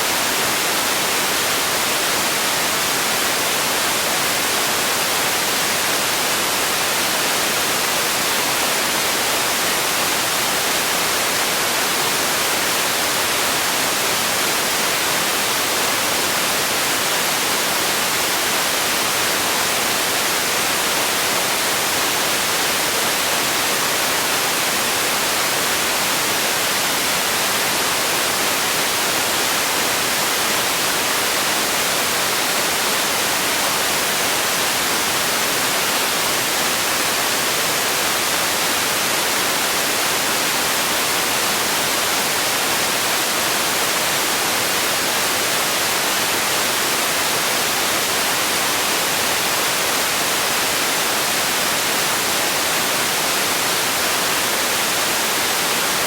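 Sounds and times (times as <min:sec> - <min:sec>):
steady hiss noise: 0:00.0 - 0:56.0.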